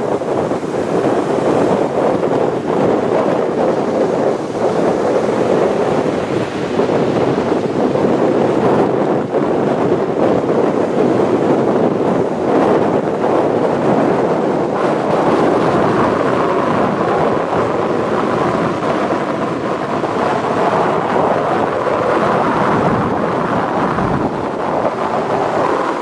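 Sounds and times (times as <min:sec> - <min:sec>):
surf breaking on a beach: 0:00.0 - 0:26.0
wind buffeting microphone: 0:00.0 - 0:26.0.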